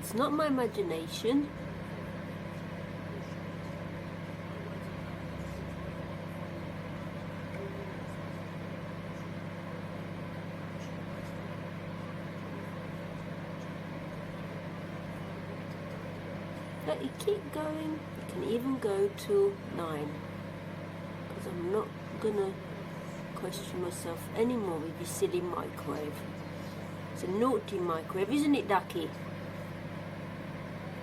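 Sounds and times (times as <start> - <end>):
microwave oven humming: 0.0 - 31.0.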